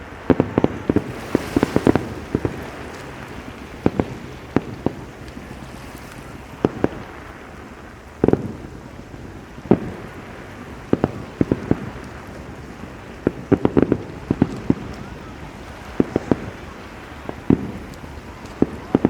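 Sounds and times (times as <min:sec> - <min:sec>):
fireworks bursting with sharp bangs: 0:00.0 - 0:19.0
wind: 0:00.0 - 0:19.0.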